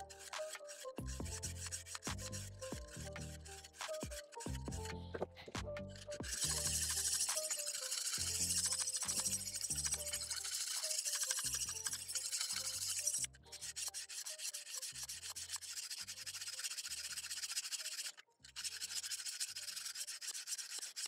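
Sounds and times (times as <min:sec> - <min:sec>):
hone scraping along knife edge: 0:00.0 - 0:21.0.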